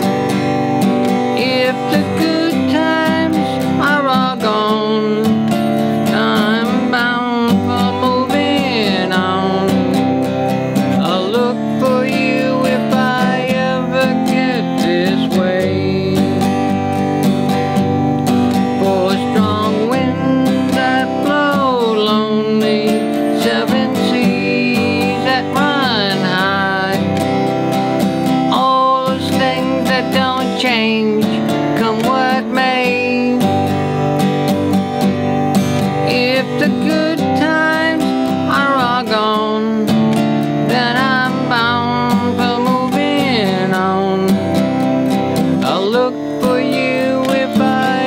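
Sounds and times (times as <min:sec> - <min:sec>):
acoustic guitar strumming: 0:00.0 - 0:48.0
person singing folk melody: 0:00.0 - 0:48.0.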